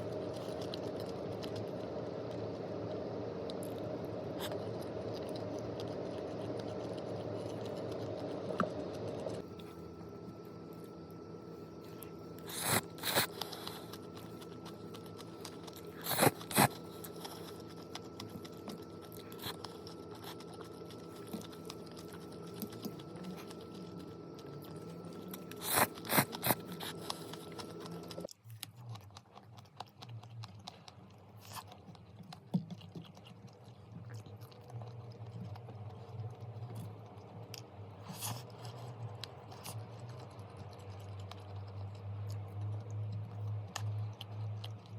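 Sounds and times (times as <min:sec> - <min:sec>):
person chewing and crunching food: 0:00.0 - 0:44.9
steady background hum: 0:00.0 - 0:44.9.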